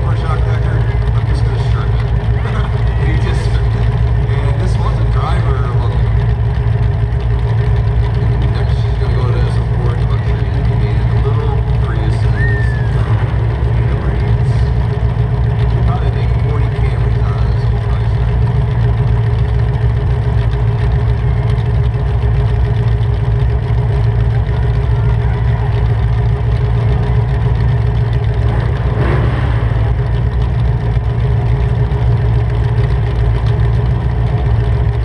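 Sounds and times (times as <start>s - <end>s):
loud car engine idling: 0.0s - 35.0s.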